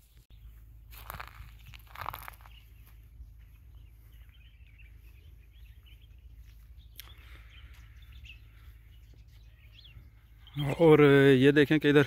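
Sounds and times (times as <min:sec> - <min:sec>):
bird chirps: 0:00.0 - 0:12.0
low background rumble: 0:00.1 - 0:10.5.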